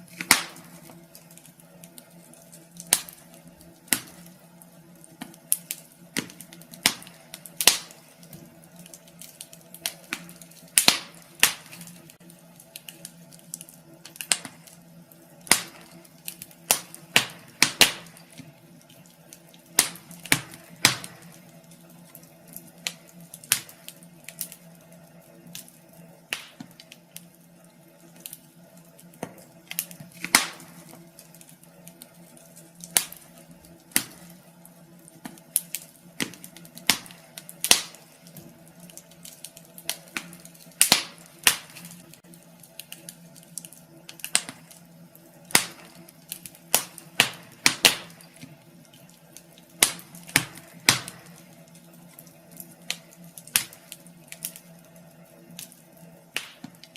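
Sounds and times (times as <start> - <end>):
faint steady hum: 0.0 - 56.9
wood fire crackling and popping: 0.0 - 56.9.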